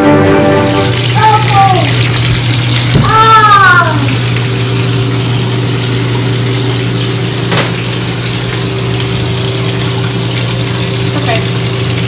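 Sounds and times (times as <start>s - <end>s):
low mechanical hum: 0.3s - 12.0s.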